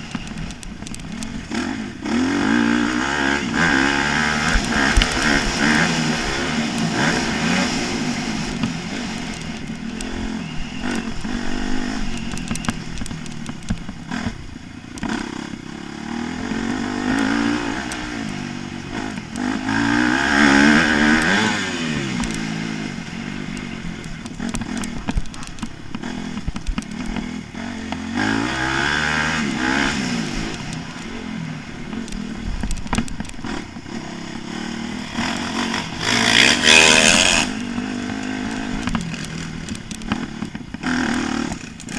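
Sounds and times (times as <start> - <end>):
small sharp clicks: 0.0 - 1.6, 3.6 - 15.5, 16.4 - 41.9
motocross engine revving: 0.0 - 41.9.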